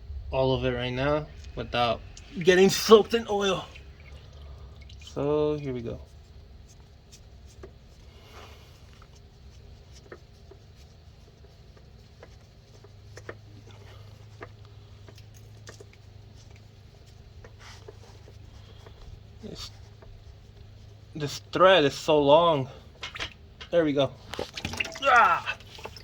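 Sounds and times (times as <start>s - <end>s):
low steady hum: 0.0s - 26.0s
oil dripping: 1.0s - 26.0s.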